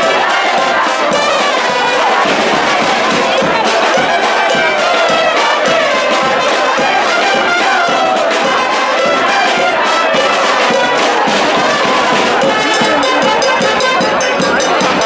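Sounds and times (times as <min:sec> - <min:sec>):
drum and cymbal beats: 0:00.0 - 0:15.0
trumpets and trombones melody: 0:00.0 - 0:15.0.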